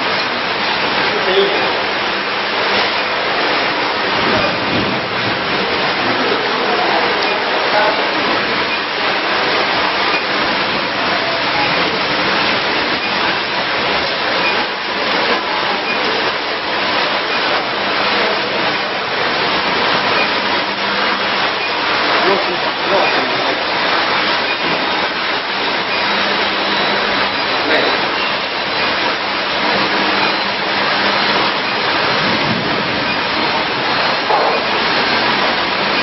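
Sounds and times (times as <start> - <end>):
machinery rushing noise: 0.0 - 36.0.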